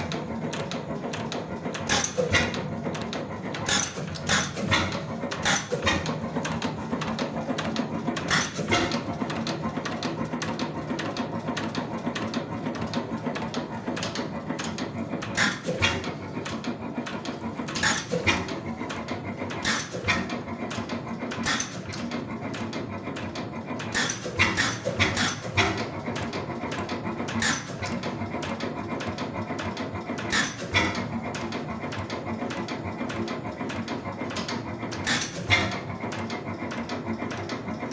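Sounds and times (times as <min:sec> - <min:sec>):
oil engine clattering: 0:00.0 - 0:37.9.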